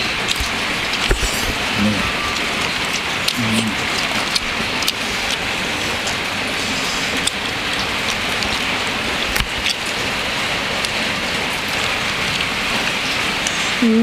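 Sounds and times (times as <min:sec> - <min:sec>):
raindrop clicks: 0:00.0 - 0:06.3, 0:07.1 - 0:13.6
steady rain hiss: 0:00.0 - 0:14.0.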